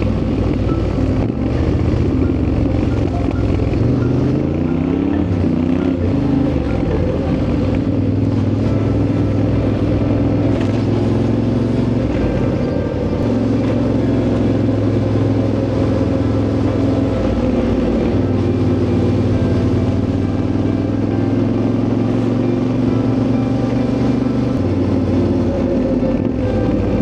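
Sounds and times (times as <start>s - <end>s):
motorcycle engine running: 0.0s - 27.0s
road noise: 0.0s - 27.0s.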